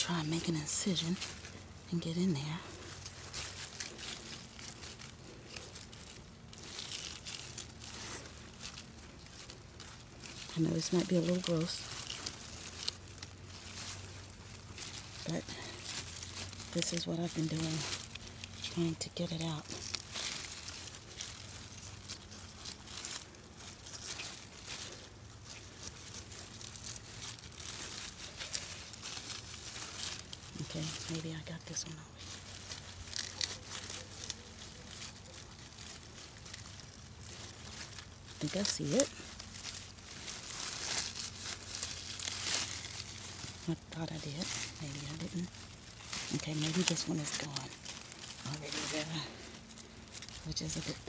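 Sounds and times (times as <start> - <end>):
crackling tearing plant fibres: 0.0 - 51.0.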